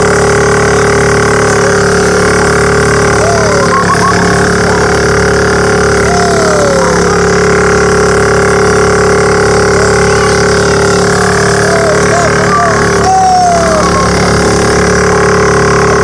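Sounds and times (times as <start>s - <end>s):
small boat motor humming: 0.0s - 16.0s.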